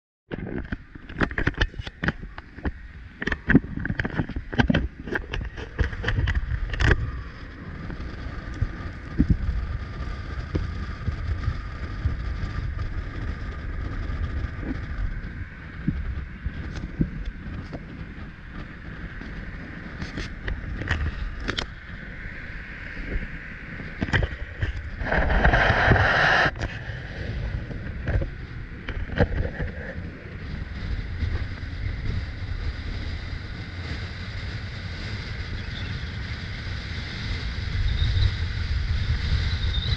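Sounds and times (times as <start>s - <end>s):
car road and engine noise: 0.3s - 39.9s
wind buffeting microphone: 0.3s - 39.9s.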